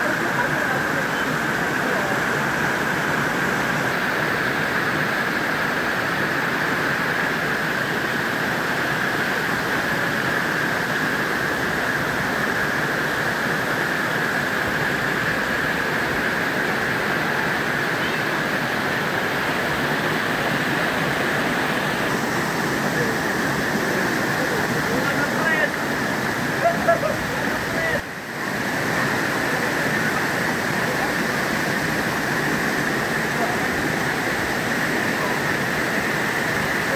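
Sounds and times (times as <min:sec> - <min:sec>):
waterfall roaring: 0:00.0 - 0:36.9.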